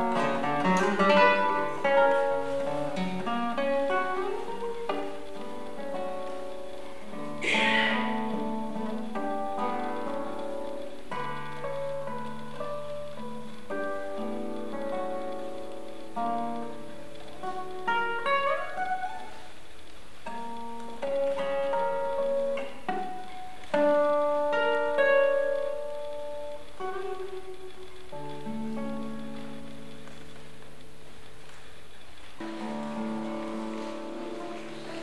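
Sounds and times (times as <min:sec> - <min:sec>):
classical guitar playing: 0:00.0 - 0:35.0.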